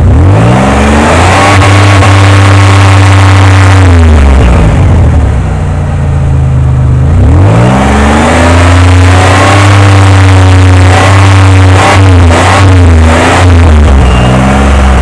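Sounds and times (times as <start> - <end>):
car engine misfiring and revving: 0.0 - 15.0.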